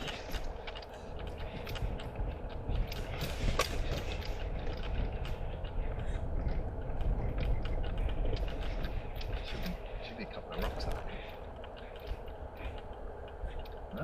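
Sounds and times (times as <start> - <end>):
car road rumble: 0.0 - 14.0
small rattles and clicks: 0.0 - 14.0.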